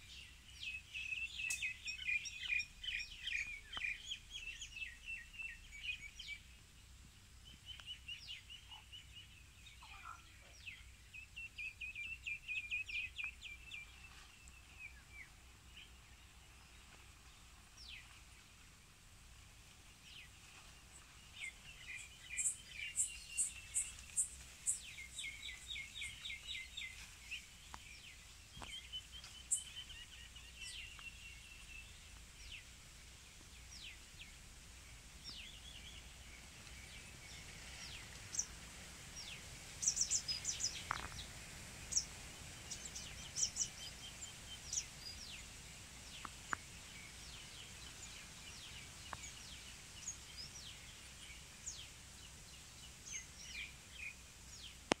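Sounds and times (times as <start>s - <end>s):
faint outdoor background: 0.0s - 55.0s
small birds chirping: 0.0s - 55.0s.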